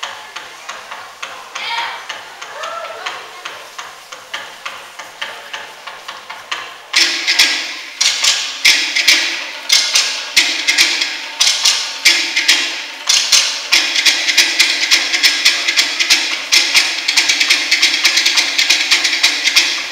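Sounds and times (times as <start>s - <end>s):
wooden drums beating rapid rhythm: 0.0s - 19.9s.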